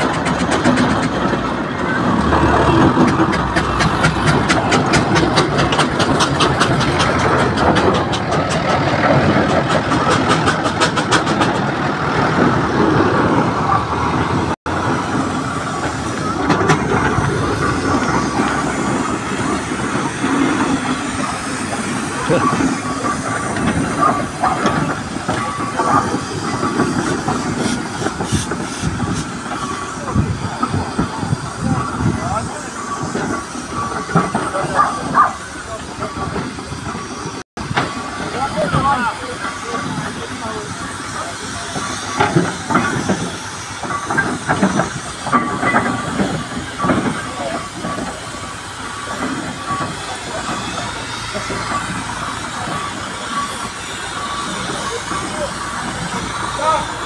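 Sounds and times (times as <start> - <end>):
steam engine exhaust beating: 0.0 - 57.0
steam hissing: 0.0 - 57.0.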